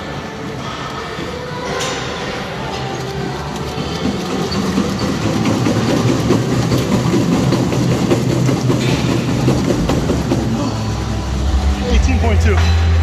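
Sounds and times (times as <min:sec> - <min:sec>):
treadmill rumbling and clattering: 0:00.0 - 0:13.0.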